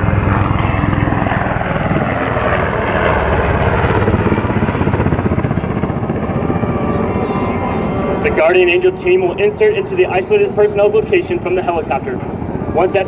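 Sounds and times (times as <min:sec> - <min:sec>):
helicopter rotor beating: 0:00.0 - 0:13.0.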